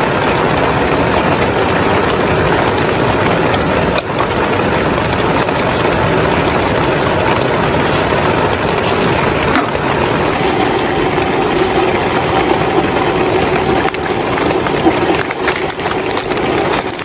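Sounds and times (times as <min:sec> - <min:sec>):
faint hum: 0:00.0 - 0:17.0
heavy rain falling: 0:00.0 - 0:17.0.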